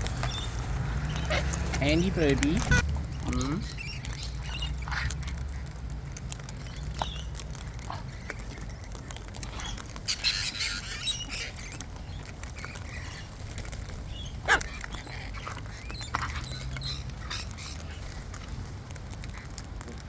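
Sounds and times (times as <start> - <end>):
parrots calling and chirping: 0.0 - 19.8.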